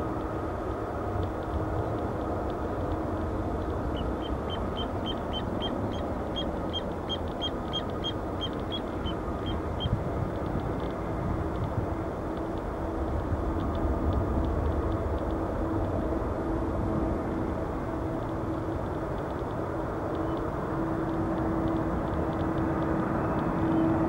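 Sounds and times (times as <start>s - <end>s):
distant airliner rumble: 0.0s - 24.0s.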